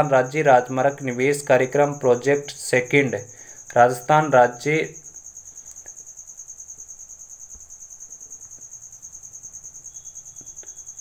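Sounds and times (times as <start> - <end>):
insect trilling: 0.0 - 11.0.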